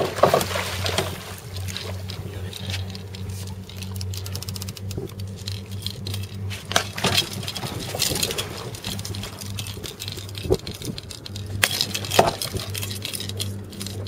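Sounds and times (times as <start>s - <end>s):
boat engine hum: 0.0s - 14.0s.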